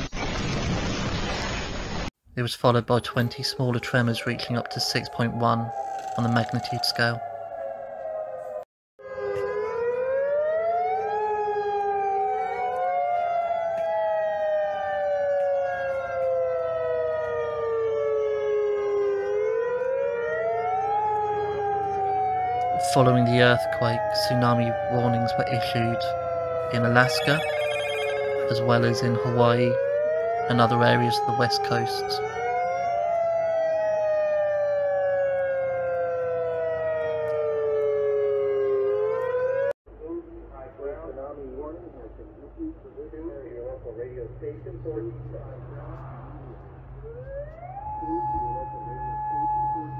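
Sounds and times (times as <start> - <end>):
warning siren wailing: 2.6 - 39.8, 45.3 - 49.9.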